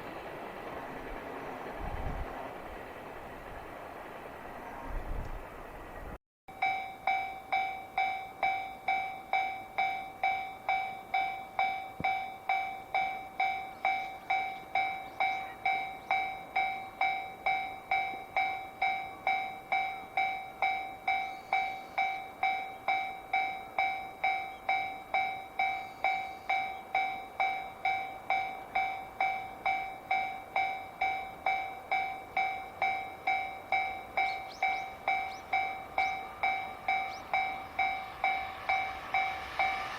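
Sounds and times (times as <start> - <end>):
level crossing alarm ringing: 6.5 - 39.9.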